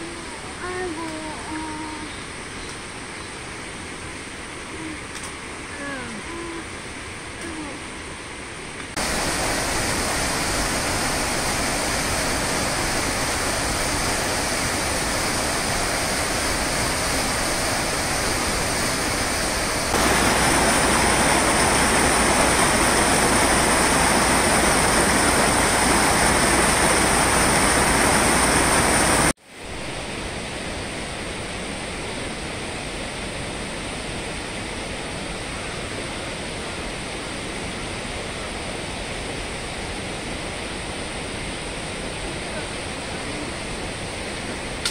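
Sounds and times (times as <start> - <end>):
rushing mountain stream: 2.2 - 44.9.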